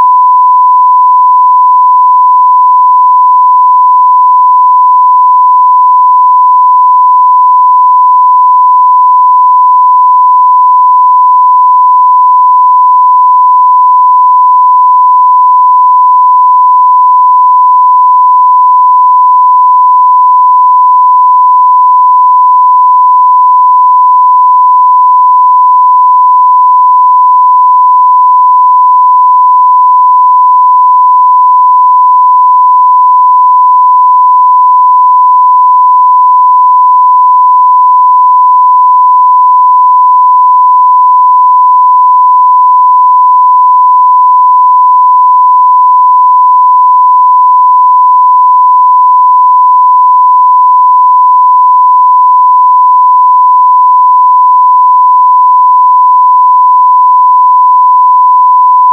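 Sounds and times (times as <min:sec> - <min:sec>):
sine-wave test tone: 0:00.0 - 0:58.9.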